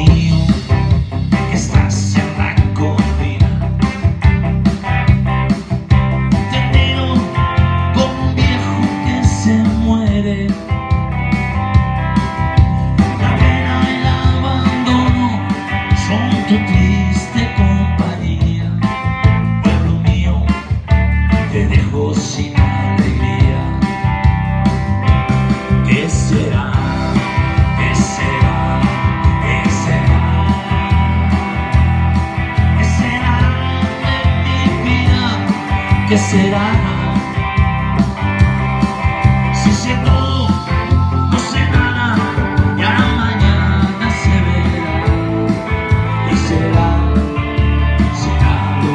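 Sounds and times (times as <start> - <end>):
electric guitar: 0.0 - 48.9
steady beat and bass line: 0.0 - 48.9.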